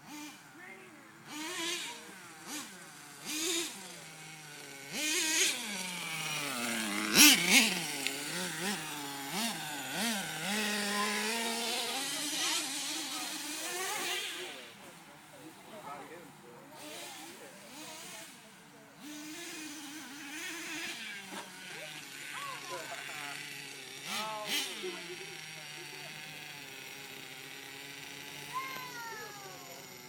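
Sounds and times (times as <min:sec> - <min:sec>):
car engine revving: 0:01.2 - 0:14.9, 0:16.7 - 0:29.1.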